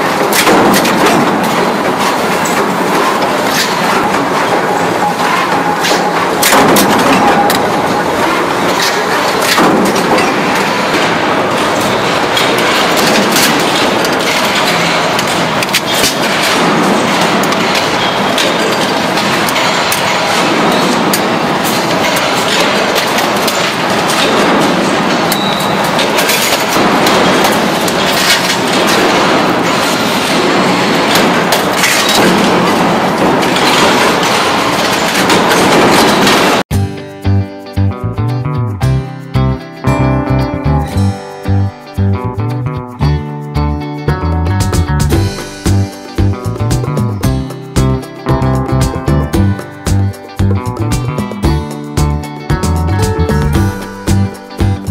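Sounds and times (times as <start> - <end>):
sharp metallic clicks and clatter: 0.0 - 36.7, 44.6 - 54.9
factory machinery running: 0.0 - 37.9, 38.8 - 54.9.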